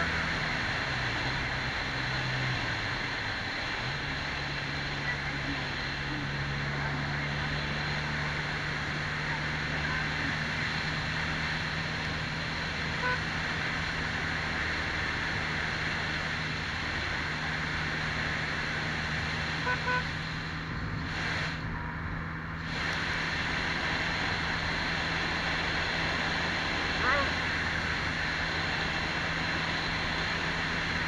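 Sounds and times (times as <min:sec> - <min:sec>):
wind and road noise: 0:00.0 - 0:31.0.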